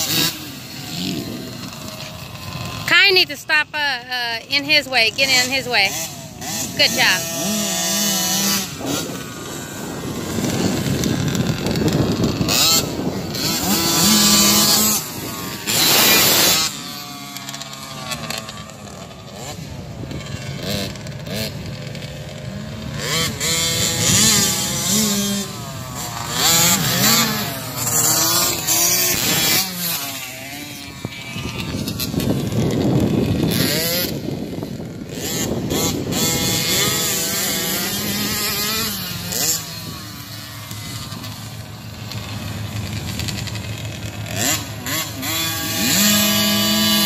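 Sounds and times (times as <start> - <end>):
dirt bike engines revving: 0.0 - 47.0.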